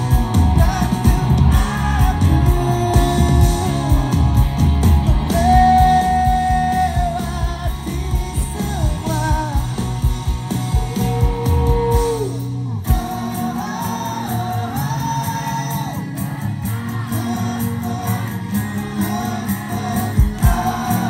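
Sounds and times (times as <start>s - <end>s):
person singing: 0.0s - 10.0s, 11.0s - 21.0s
live pop-rock band: 0.0s - 21.0s.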